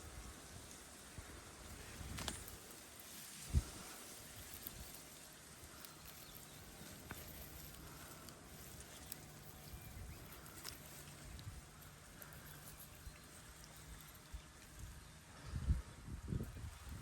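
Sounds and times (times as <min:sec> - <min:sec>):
low outdoor hiss: 0:00.0 - 0:17.0
small ticks: 0:00.2 - 0:15.2.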